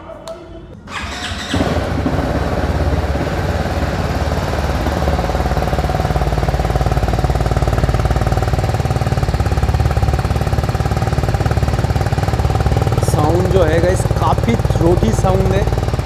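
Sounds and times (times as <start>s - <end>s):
motorcycle engine idling: 0.9s - 16.0s.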